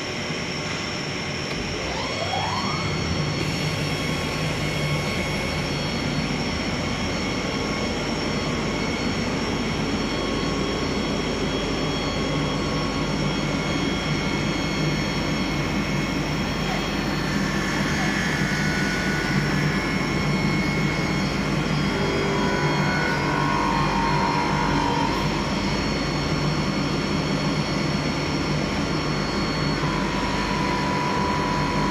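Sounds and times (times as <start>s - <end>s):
high machine whines: 0.0s - 31.9s.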